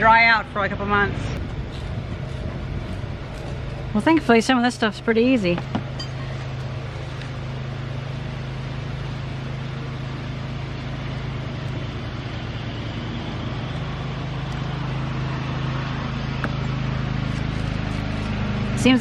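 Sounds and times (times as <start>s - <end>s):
low mechanical hum: 0.0s - 19.0s
even noise: 1.1s - 19.0s.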